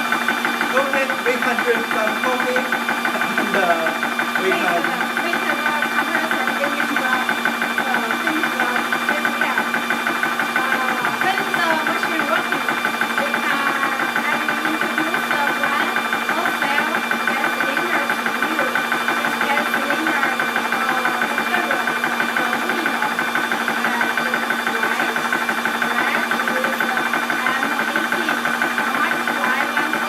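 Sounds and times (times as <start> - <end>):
air compressor rattling and humming: 0.0 - 30.0.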